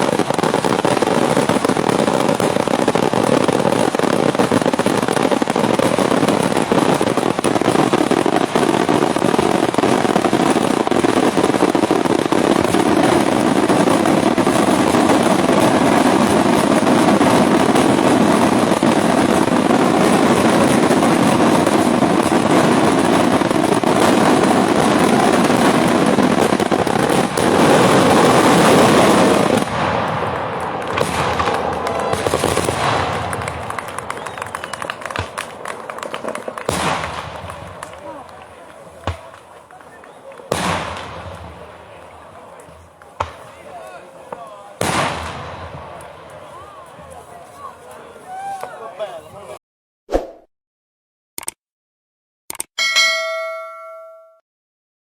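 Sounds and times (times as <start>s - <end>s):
fireworks bangs and crackling: 0.0s - 49.6s.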